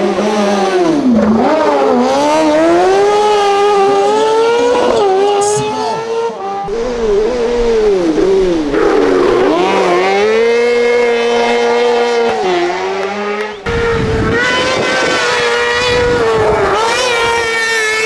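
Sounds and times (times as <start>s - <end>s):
kart engine revving: 0.0s - 18.0s.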